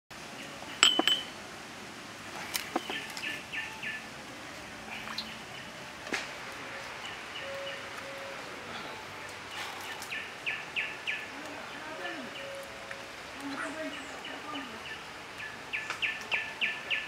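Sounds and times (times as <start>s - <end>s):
birds chirping: 0.3s - 1.4s, 2.2s - 17.0s.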